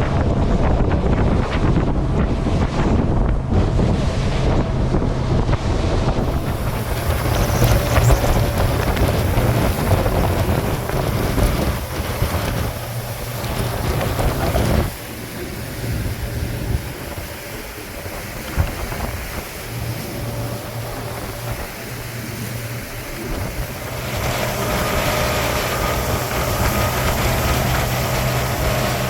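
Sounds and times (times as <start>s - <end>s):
motorboat running: 0.0s - 29.0s
wind buffeting microphone: 0.0s - 29.0s.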